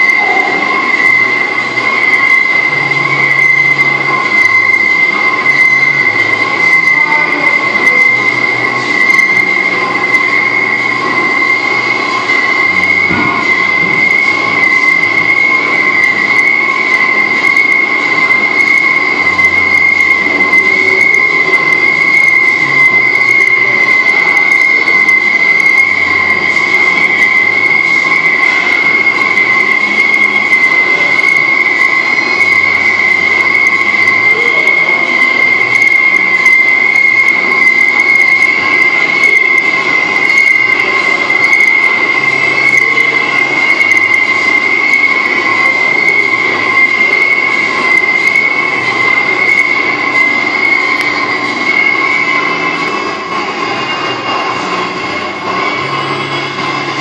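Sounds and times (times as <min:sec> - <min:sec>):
lathe high-pitched squeal: 0:00.0 - 0:57.0.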